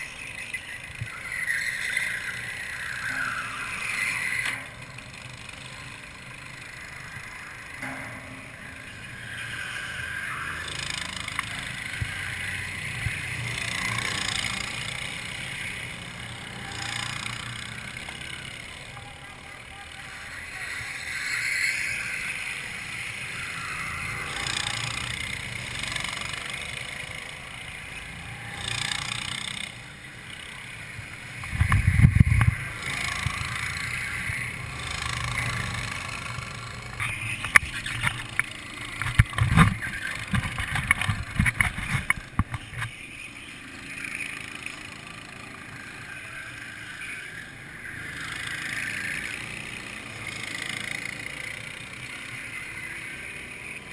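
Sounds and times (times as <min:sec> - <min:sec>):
distant go-kart engines buzzing: 0:00.0 - 0:53.9.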